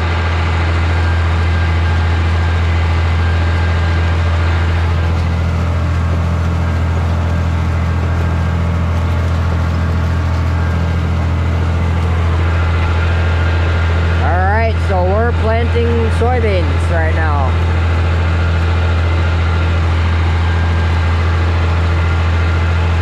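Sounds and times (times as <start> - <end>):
tractor engine humming: 0.0 - 23.0.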